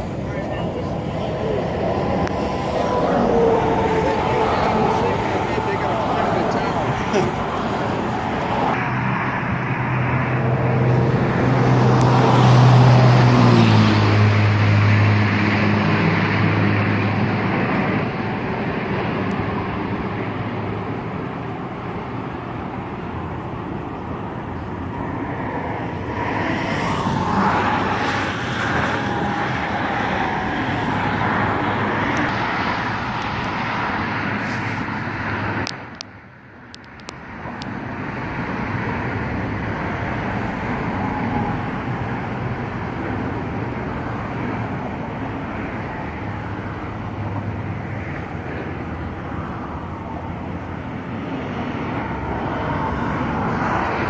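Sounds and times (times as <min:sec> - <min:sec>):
louder vehicle passing: 0:00.0 - 0:54.0
road traffic going by: 0:00.0 - 0:54.0.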